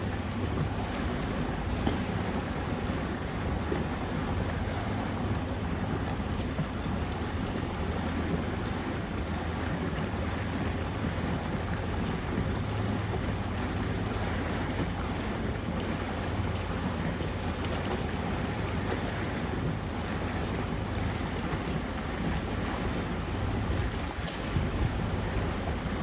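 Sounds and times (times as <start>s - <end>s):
boat engine humming: 0.0s - 26.0s
water rushing past hull: 0.0s - 26.0s
wind buffeting microphone: 0.0s - 26.0s.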